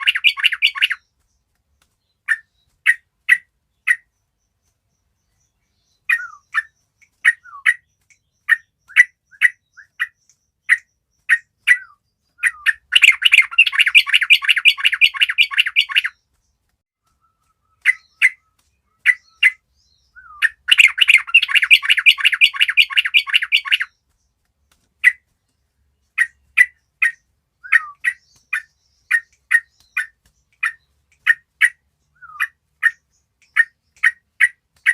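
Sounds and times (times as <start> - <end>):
bird calls: 0.0 - 34.9
birds chattering: 0.0 - 34.9.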